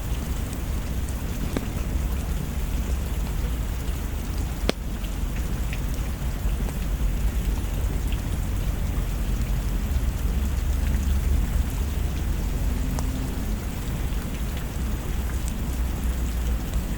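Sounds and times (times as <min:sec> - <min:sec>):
heavy rain hissing: 0:00.0 - 0:16.9.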